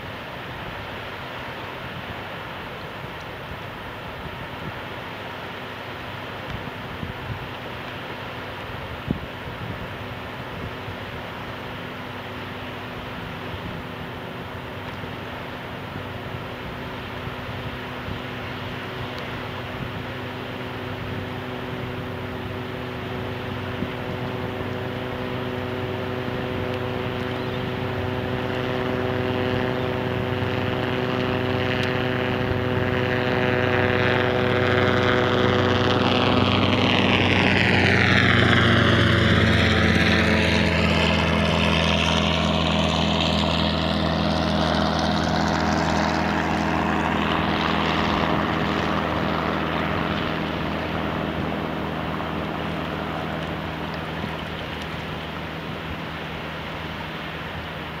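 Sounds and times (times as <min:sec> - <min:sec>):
propeller aircraft flying over: 0:00.0 - 0:58.0.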